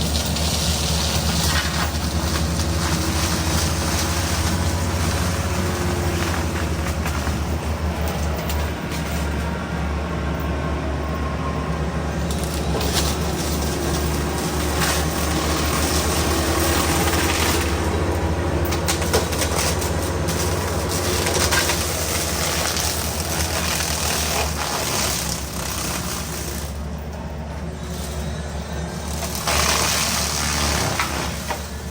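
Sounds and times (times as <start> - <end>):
mulcher cracking and crunching undergrowth: 0.0 - 10.6, 11.2 - 31.9
excavator diesel engine under load: 0.0 - 31.9.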